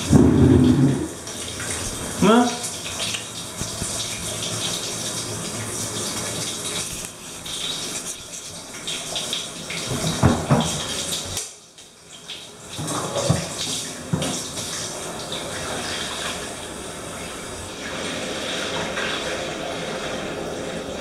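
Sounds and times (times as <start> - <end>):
water running into bathtub: 0.0 - 21.0.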